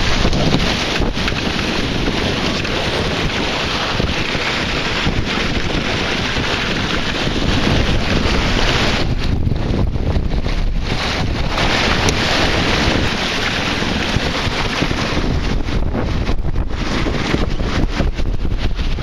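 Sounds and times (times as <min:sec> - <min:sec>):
water splashing along hull: 0:00.0 - 0:19.0
wind buffeting microphone: 0:00.0 - 0:19.0.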